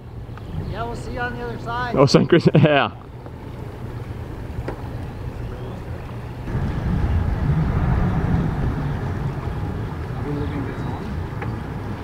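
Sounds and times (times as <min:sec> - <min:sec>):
wind buffeting microphone: 0:00.0 - 0:02.2, 0:03.2 - 0:12.0
boat engine rumble: 0:00.0 - 0:12.0.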